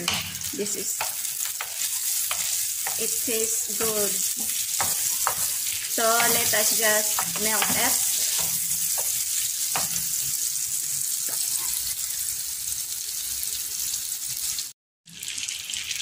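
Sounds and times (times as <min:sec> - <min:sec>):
butter sizzling in frying pan: 0:00.0 - 0:16.0.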